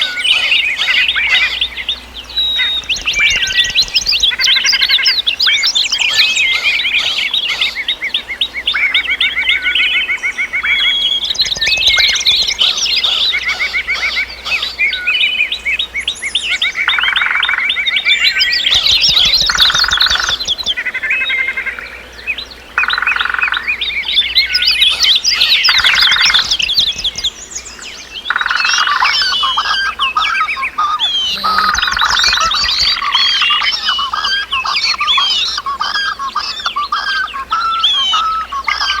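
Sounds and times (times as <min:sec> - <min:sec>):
birds chirping and singing: 0:00.0 - 0:39.0
low rattling bird trill: 0:00.0 - 0:39.0.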